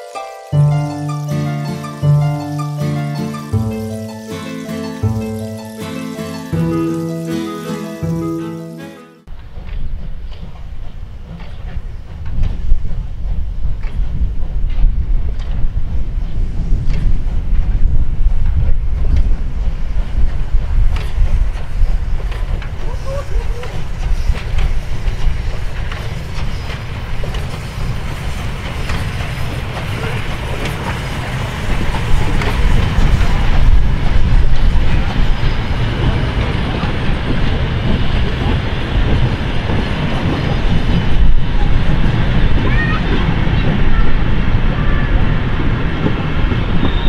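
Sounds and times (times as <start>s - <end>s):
rail clicks: 0.0s - 47.0s
steam locomotive exhaust chuffs: 0.0s - 47.0s
heavy low rumble: 9.3s - 47.0s.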